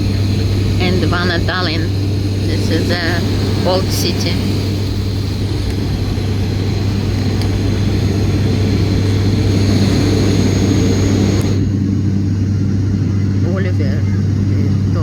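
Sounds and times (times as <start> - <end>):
airliner engines and airflow drone: 0.0 - 15.0.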